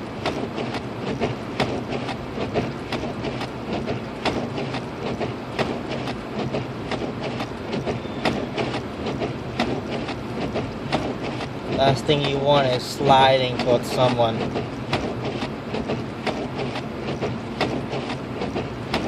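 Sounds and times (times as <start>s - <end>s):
tyres and engine droning: 0.0s - 19.0s
irregular clicks and knocks: 0.2s - 19.0s.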